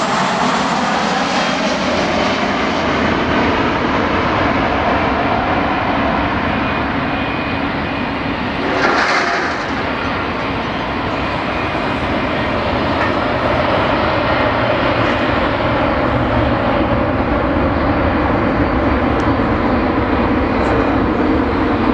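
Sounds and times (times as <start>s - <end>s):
jet engine noise: 0.0s - 21.9s.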